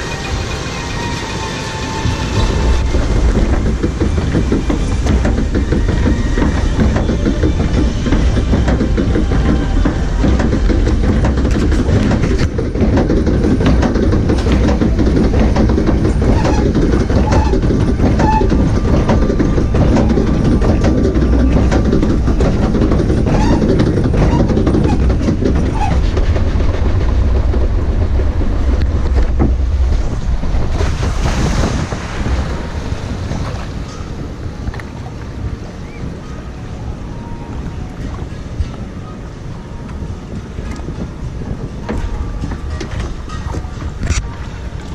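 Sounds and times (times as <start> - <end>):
machinery rattling rumble: 0.0 - 44.9
water wash: 0.0 - 44.9.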